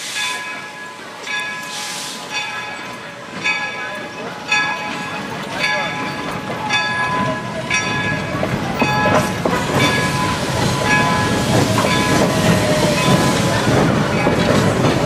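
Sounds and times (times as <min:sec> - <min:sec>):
locomotive bell ringing: 0:00.2 - 0:15.0.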